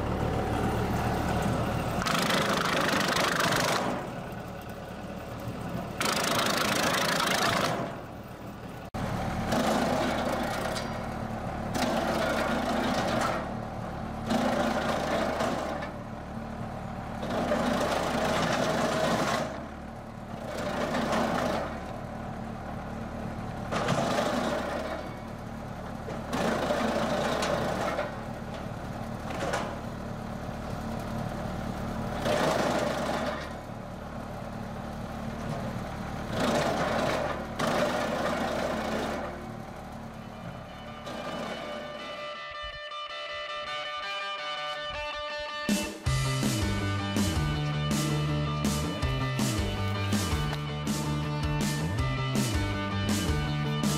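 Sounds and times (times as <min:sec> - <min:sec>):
firewood machine engine running: 0:00.0 - 0:45.1, 0:45.8 - 0:53.9.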